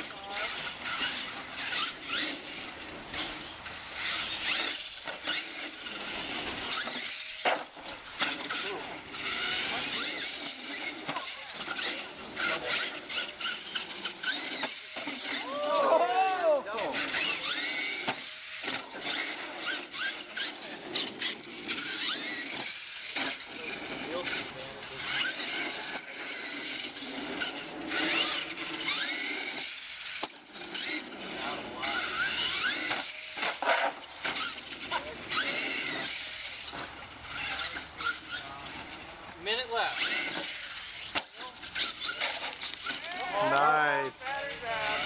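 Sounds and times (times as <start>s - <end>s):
electric motor whining: 0.0s - 45.0s.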